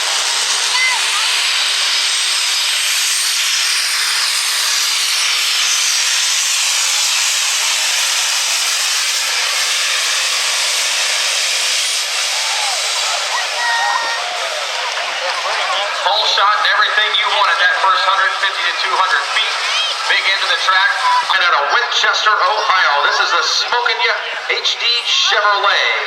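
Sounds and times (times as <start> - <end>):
turbocharger whistle: 0.0 - 25.4
screaming truck engine and exhaust: 0.0 - 26.0.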